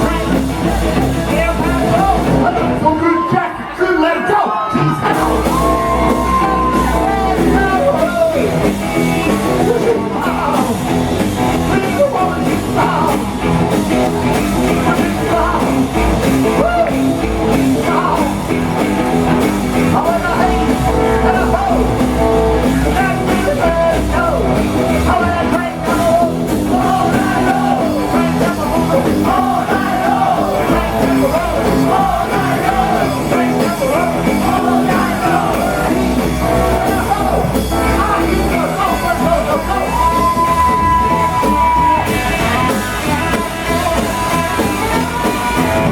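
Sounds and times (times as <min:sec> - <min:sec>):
electric guitar: 0:00.0 - 0:03.8, 0:04.5 - 0:45.9
live rock and roll band: 0:00.0 - 0:45.9.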